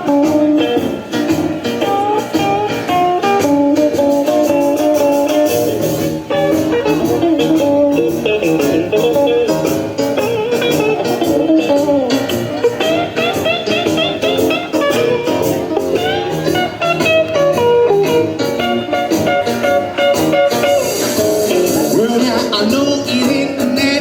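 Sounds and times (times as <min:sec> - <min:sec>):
bluesy guitar music: 0:00.0 - 0:24.0.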